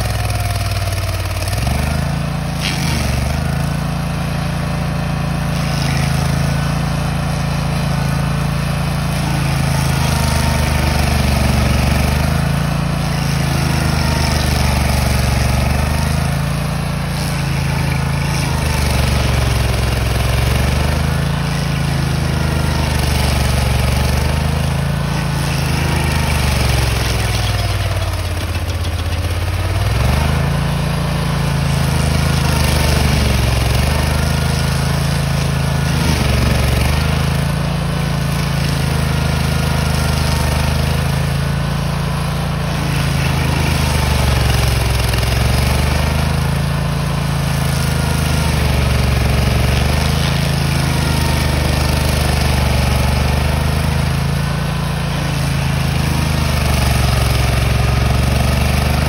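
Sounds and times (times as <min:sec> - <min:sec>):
cutter wheel grinding stump: 0:00.0 - 0:59.0
stump grinder engine at full throttle: 0:00.0 - 0:59.0.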